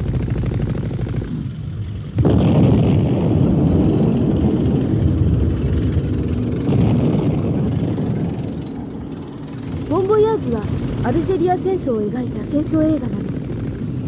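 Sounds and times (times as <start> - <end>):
low rumble of battle noise: 0.0 - 14.0.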